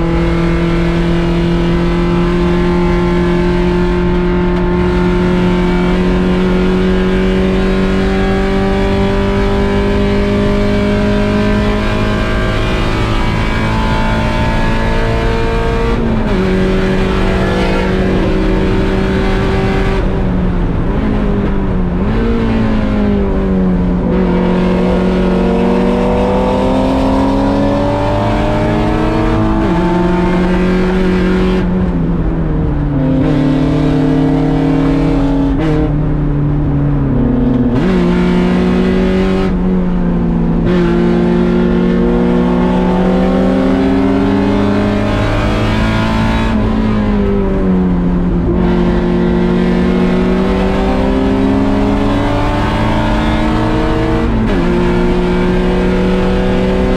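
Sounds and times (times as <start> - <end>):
car engine at full throttle: 0.0 - 56.9.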